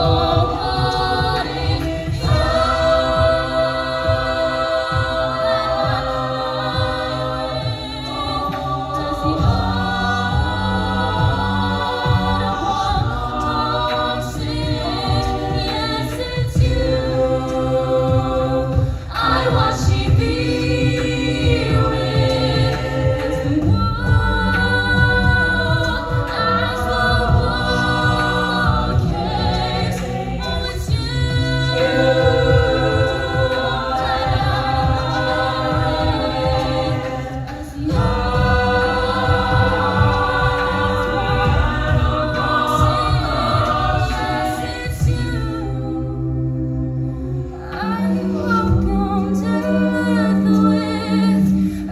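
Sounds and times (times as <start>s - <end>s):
a cappella group singing: 0.0s - 51.9s.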